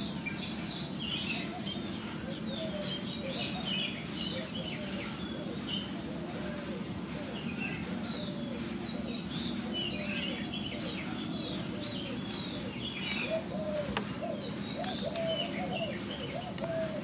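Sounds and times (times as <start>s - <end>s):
bird cooing notes: 0.0s - 17.0s.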